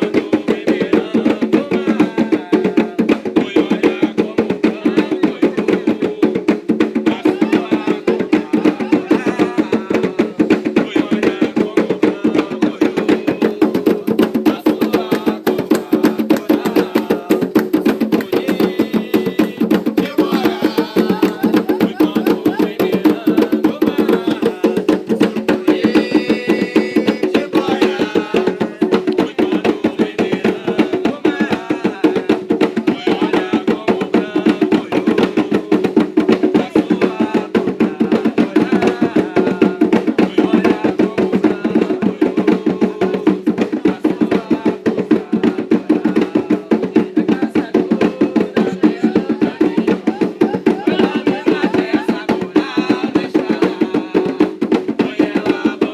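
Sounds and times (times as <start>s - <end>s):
hand drums beaten fast: 0.0s - 55.9s
voices singing: 0.0s - 55.9s.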